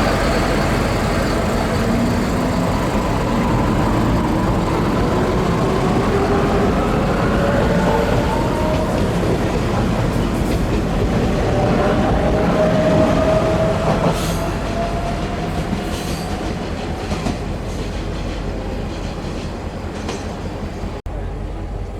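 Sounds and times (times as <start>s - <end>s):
rail vehicle rumbling with whine: 0.0s - 21.9s.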